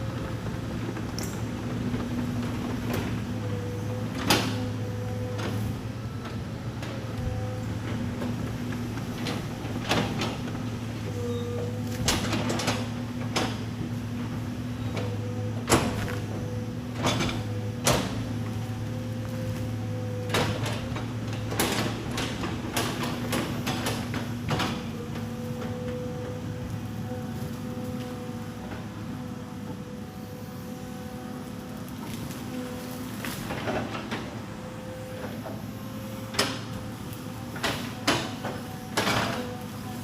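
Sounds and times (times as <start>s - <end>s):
excavator engine running: 0.0s - 40.0s.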